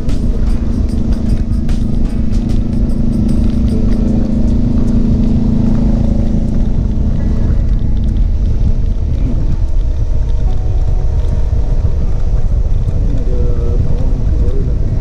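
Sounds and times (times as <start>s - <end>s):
motorcycle engine cruising: 0.0s - 15.0s
wind rumbling over microphone: 0.0s - 15.0s.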